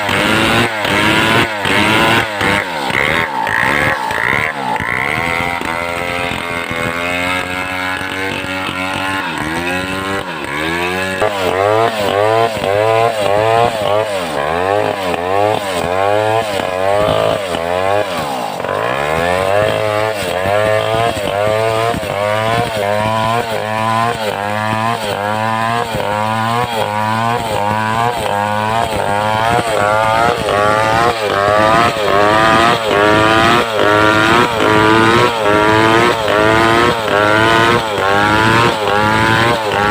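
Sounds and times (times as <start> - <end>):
chainsaw running under load: 0.0 - 39.9.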